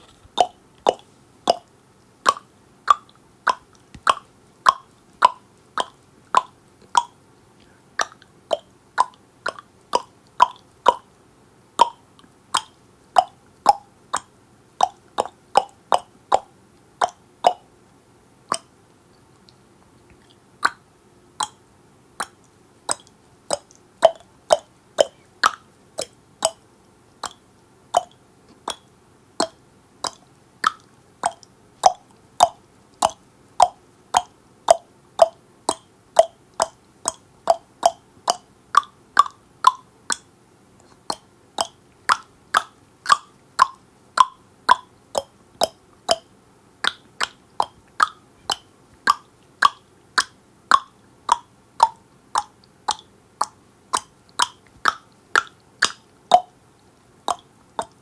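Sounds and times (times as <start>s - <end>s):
tongue clicks: 0.0s - 11.1s, 11.8s - 17.7s, 18.5s - 58.0s.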